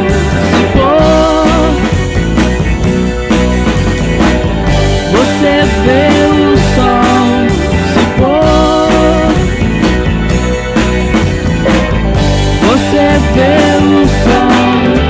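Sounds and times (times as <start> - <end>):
drums steady beat: 0.0 - 15.0
psychedelic rock band: 0.0 - 15.0.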